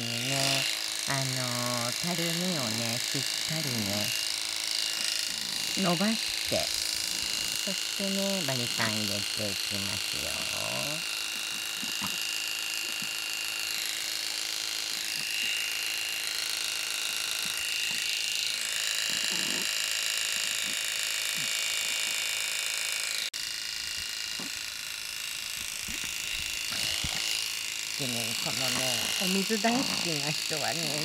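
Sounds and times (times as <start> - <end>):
electric clippers whining: 0.0 - 31.0.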